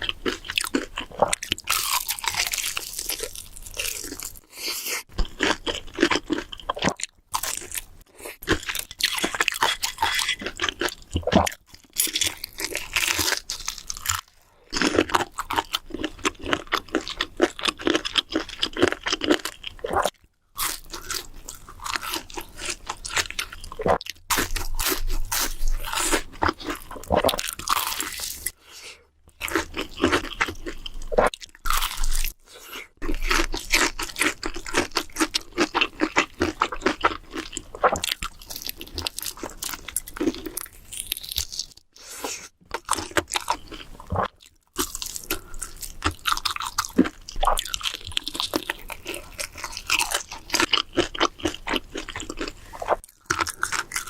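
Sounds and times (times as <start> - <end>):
crunching and chewing crisp food: 0.0 - 54.0.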